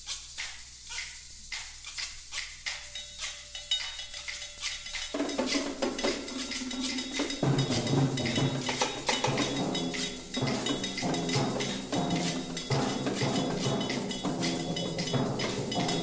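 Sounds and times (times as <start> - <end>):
percussion ensemble playing: 0.0 - 16.0.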